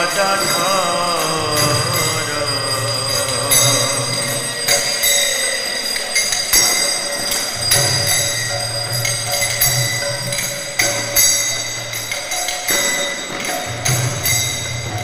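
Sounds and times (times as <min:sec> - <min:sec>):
bells ringing: 0:00.0 - 0:15.0
metal hand cymbals: 0:00.0 - 0:15.0.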